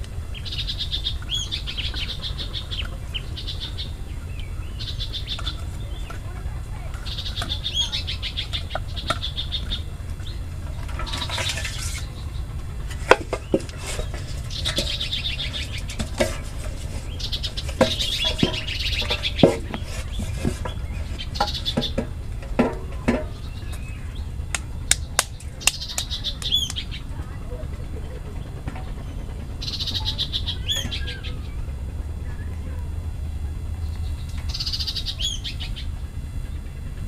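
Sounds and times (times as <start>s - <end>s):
birds chirping: 0.0s - 37.0s
low rumble: 0.0s - 37.0s.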